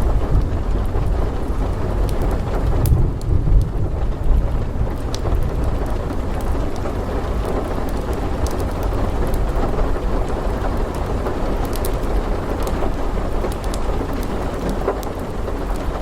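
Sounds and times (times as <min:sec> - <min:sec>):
heavy rain: 0:00.0 - 0:16.0
rolling thunder rumble: 0:00.0 - 0:16.0.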